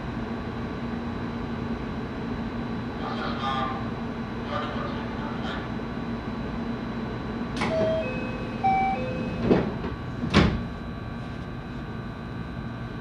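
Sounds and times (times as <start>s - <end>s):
train car hum: 0.0s - 13.0s.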